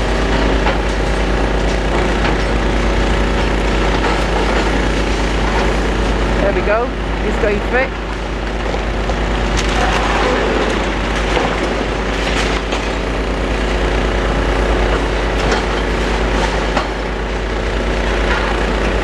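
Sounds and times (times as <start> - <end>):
falling debris clatter: 0.0 - 6.4, 7.8 - 19.0
excavator engine rumble: 0.0 - 19.0.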